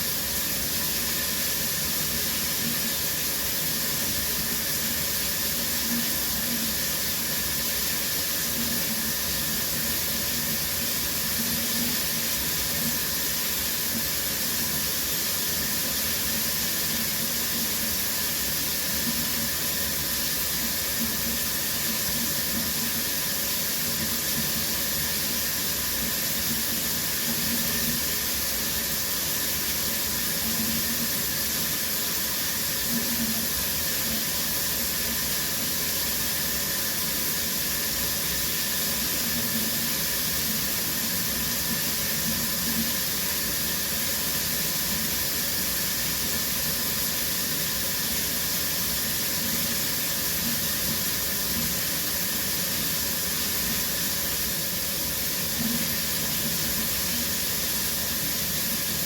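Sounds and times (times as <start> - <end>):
shower water spraying: 0.0 - 59.0.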